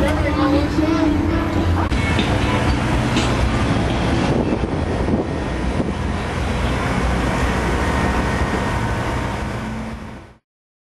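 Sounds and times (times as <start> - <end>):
truck engine running: 0.0 - 10.4.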